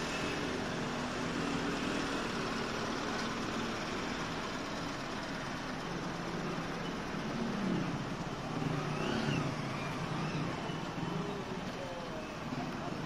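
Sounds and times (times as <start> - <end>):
motorcycle engine running: 0.0 - 13.0
pickup truck engine: 0.0 - 13.0.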